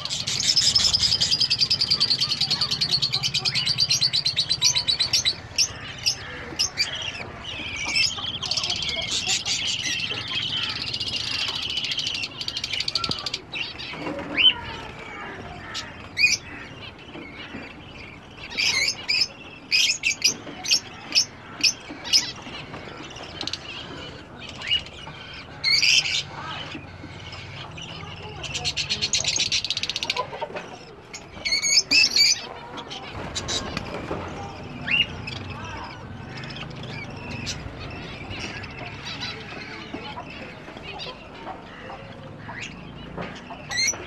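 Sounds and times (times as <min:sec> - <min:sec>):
parrots chirping and chattering: 0:00.0 - 0:44.0.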